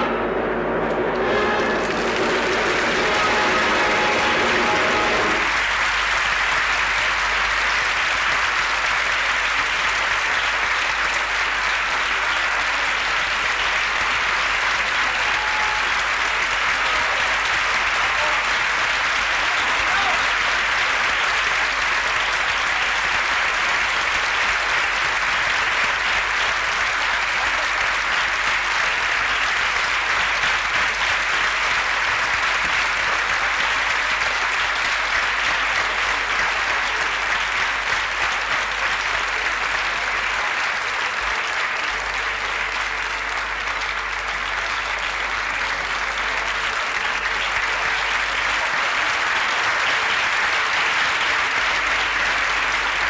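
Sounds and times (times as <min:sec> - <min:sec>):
audience applauding: 0:00.0 - 0:53.0.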